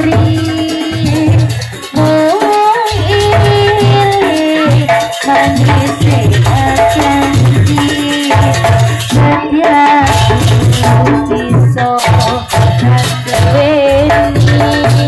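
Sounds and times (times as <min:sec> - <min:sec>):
gamelan melody: 0:00.0 - 0:15.0
pulsing drum beat: 0:00.0 - 0:15.0
rattling percussion: 0:00.0 - 0:15.0.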